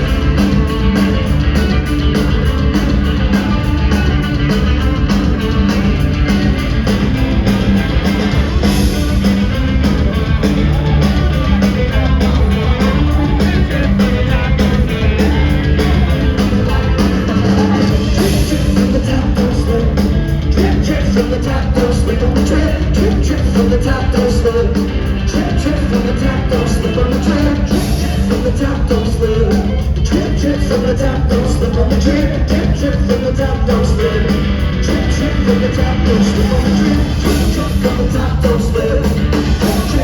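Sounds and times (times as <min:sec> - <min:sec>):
bass guitar: 0:00.0 - 0:40.0
driving drum beat: 0:00.0 - 0:40.0
guitars: 0:00.0 - 0:40.0
rock band playing: 0:00.0 - 0:40.0.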